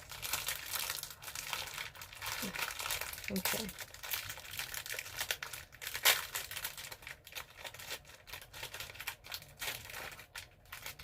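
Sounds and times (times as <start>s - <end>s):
cookie packaging rustling: 0.0s - 11.0s
sharp packaging crack: 0.0s - 11.0s.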